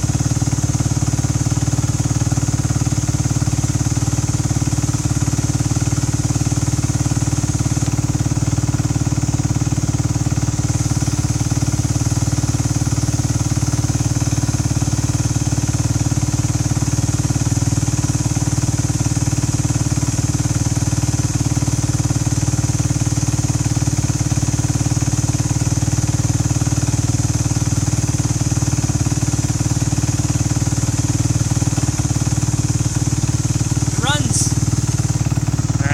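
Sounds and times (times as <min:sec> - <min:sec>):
motorcycle engine running steadily: 0:00.0 - 0:35.9.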